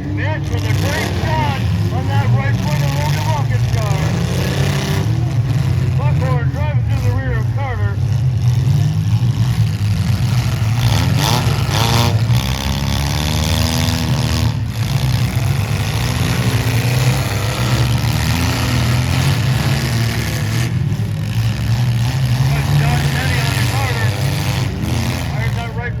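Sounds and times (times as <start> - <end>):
car engines rumbling and revving: 0.0 - 26.0.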